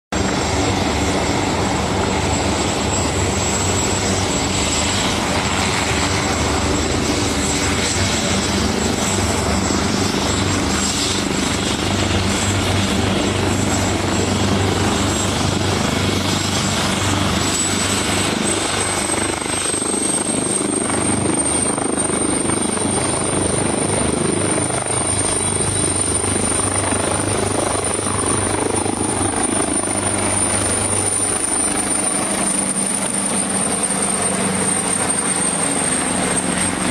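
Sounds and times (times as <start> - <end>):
helicopter running: 0.1 - 36.9.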